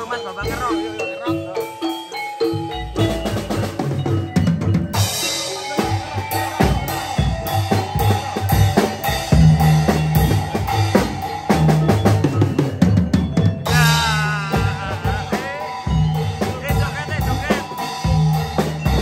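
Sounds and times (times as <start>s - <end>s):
bass drum: 2.5s - 19.0s.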